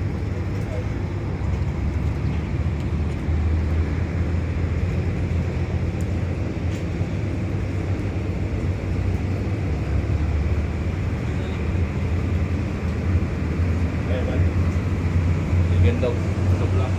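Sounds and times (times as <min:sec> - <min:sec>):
ship engine low rumble: 0:00.0 - 0:16.9.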